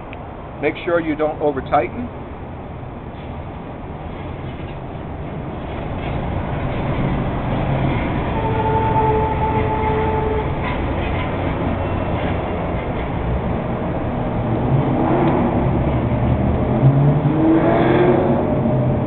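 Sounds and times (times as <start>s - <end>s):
loud mechanical rumble: 2.0s - 19.0s.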